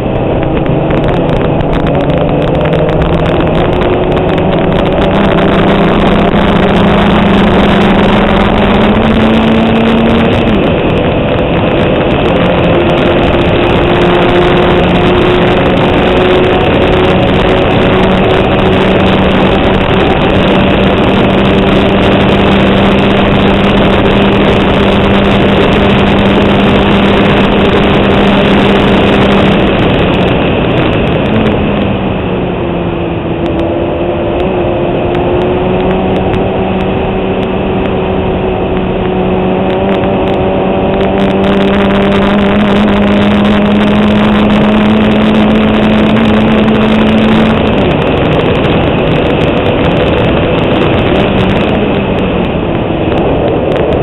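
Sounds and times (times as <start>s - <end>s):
car engine working hard: 0.0s - 54.0s.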